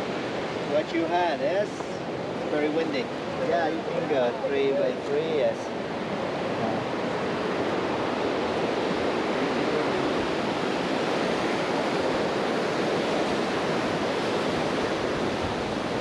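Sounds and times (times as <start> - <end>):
fast river rushing: 0.0 - 16.0.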